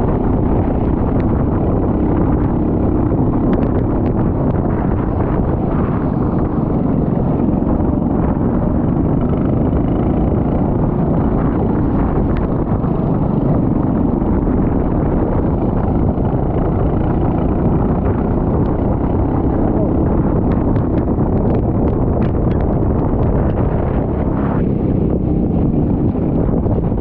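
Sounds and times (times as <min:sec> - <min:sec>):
go-kart engine running: 0:00.0 - 0:27.0
wind buffeting on microphone: 0:00.0 - 0:27.0.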